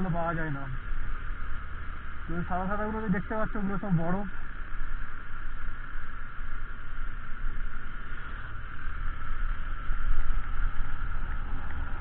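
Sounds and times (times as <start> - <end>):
motorcycle riding drone: 0.0 - 12.0.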